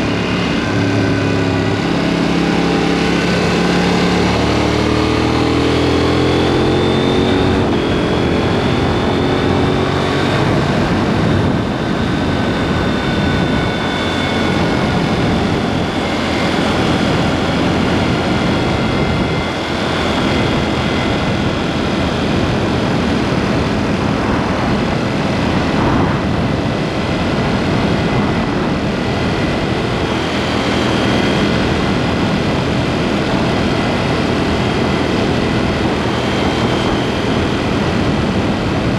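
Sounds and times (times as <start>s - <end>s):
motorcycle engine running: 0.0s - 38.9s
road noise: 0.0s - 38.9s
rushing wind: 0.0s - 38.9s.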